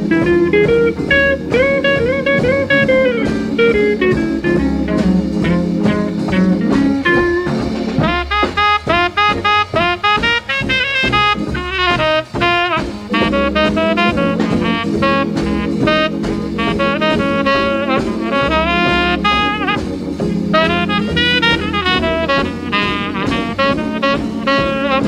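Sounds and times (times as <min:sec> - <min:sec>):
instrumental r and b record: 0:00.0 - 0:25.0
saxophone lead with sliding notes: 0:00.0 - 0:25.0
steady held chords: 0:00.0 - 0:25.0.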